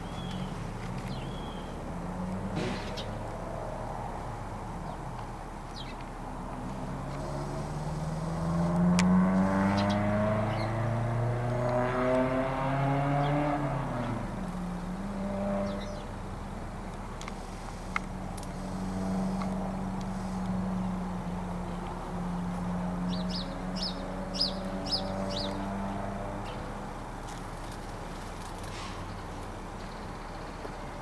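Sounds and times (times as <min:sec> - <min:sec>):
vehicle engine revving: 0:00.0 - 0:05.3, 0:06.2 - 0:31.0.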